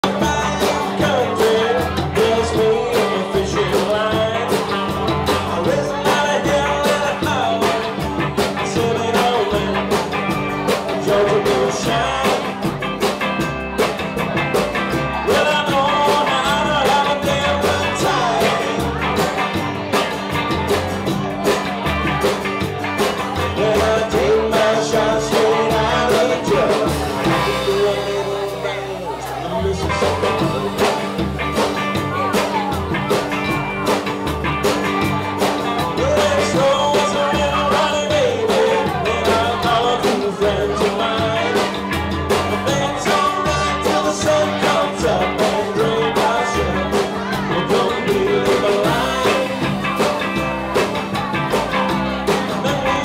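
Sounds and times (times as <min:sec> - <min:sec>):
live jazzy band playing: 0:00.0 - 0:53.0
man singing: 0:00.0 - 0:53.0.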